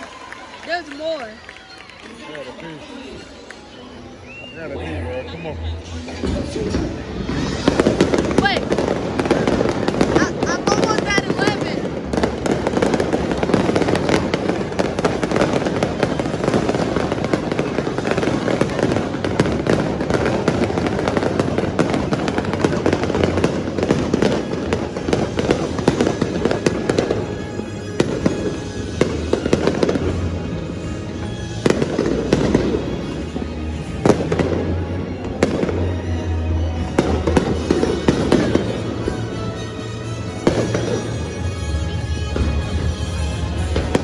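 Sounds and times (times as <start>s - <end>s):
music playing: 0.0s - 44.0s
fireworks bangs and crackles: 5.8s - 44.0s.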